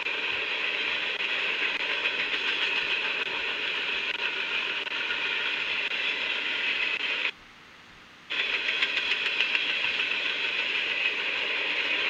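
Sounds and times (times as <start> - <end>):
freight train wheels on rail: 0.0 - 7.4, 8.3 - 12.0.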